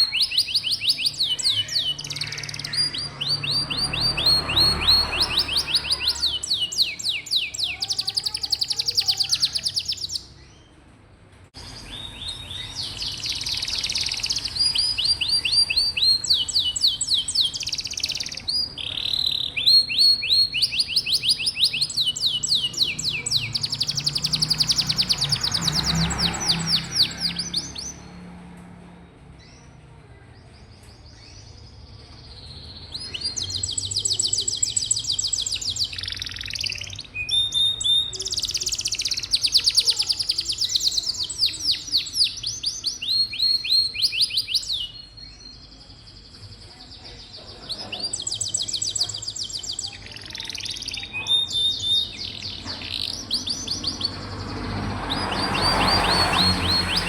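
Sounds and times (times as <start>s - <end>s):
canary singing trills: 0.0s - 10.7s, 11.6s - 28.4s, 30.4s - 57.0s.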